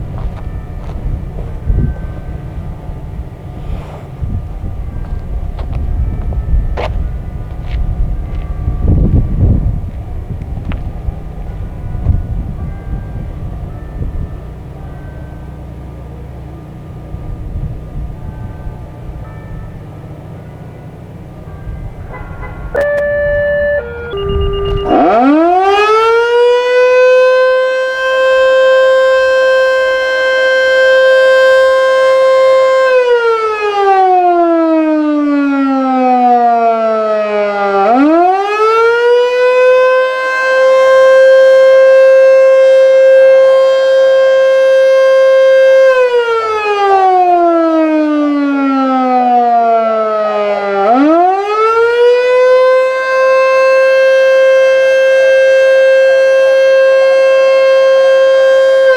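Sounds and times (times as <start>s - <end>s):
fire siren wailing: 0.0s - 58.9s.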